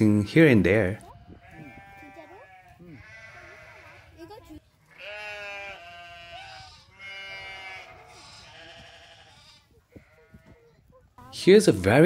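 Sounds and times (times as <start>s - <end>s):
baby goats bleating: 1.0s - 10.9s.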